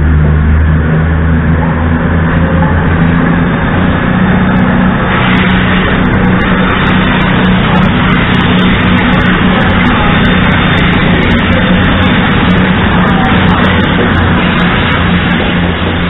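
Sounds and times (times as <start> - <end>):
diesel train engines droning: 0.0 - 16.0
train rushing noise: 0.0 - 16.0.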